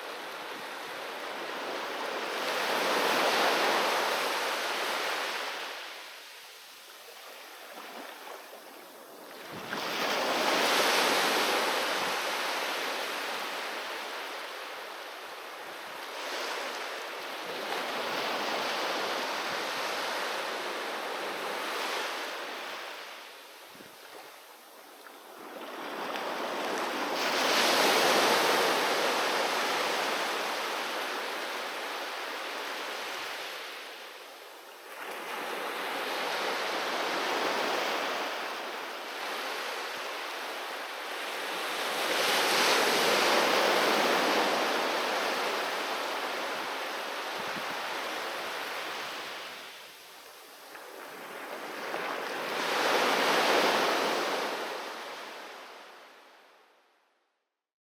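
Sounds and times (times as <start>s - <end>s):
sea waves breaking on beach: 0.0s - 34.2s, 34.8s - 55.9s.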